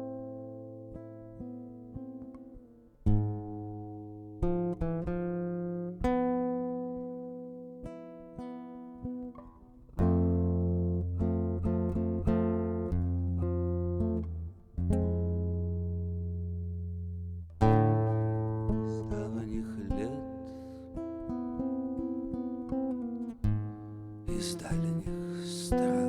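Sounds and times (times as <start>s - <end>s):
guitar playing slowly: 0.0s - 26.0s.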